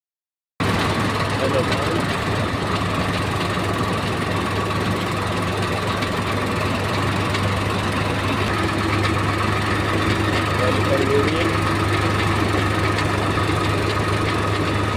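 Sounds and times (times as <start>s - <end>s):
tractor engine droning: 0.6s - 14.9s.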